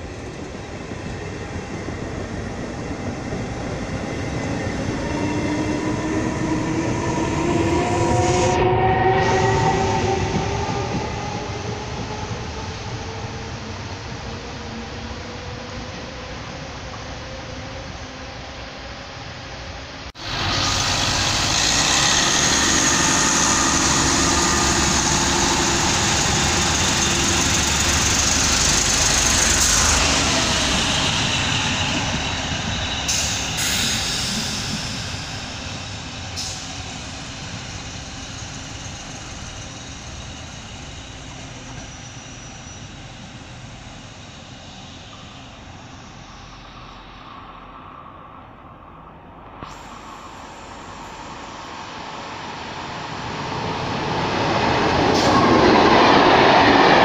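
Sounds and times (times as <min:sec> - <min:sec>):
train rumbling past: 0:00.0 - 0:57.0.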